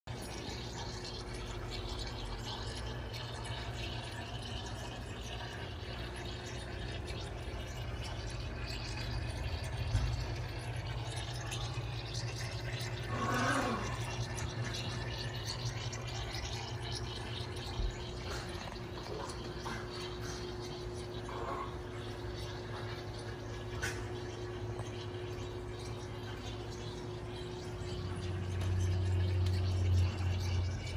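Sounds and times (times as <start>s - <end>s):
trickle of running water: 0.0s - 30.9s
low pump hum: 0.1s - 30.9s.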